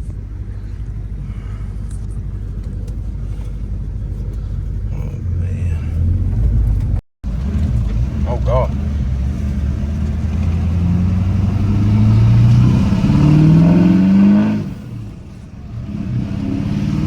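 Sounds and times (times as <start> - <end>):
diesel engine accelerating: 0.0 - 17.0.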